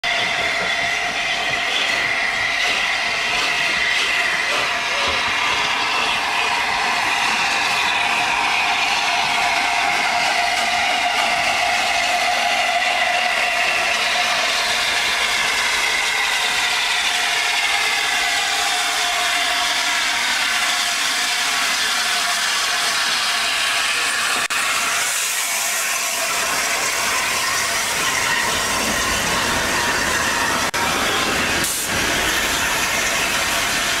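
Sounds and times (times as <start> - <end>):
steam hissing from locomotive: 0.1 - 34.0.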